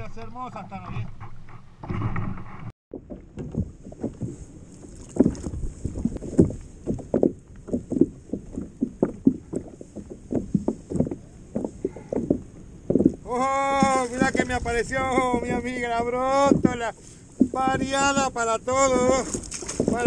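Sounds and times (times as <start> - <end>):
waves slapping against kayak hull: 0.6 - 20.0.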